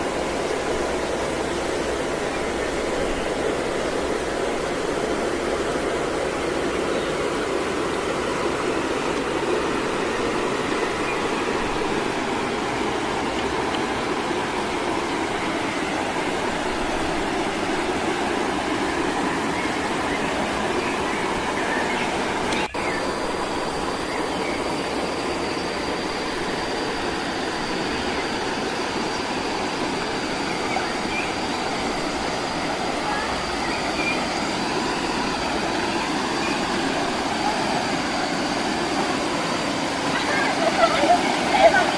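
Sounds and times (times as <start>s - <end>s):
rocky stream and waterfall rushing: 0.0s - 41.9s.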